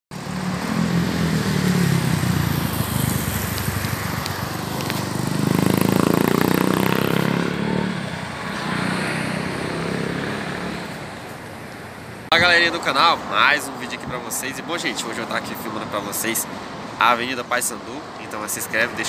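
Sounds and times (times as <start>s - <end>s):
vehicles driving past: 0.1s - 19.0s.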